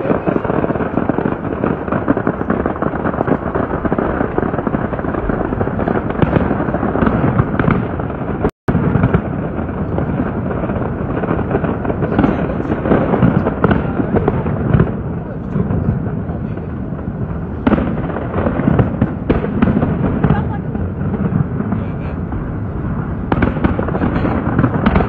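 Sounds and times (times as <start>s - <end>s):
fireworks bursting and crackling: 0.0s - 25.0s.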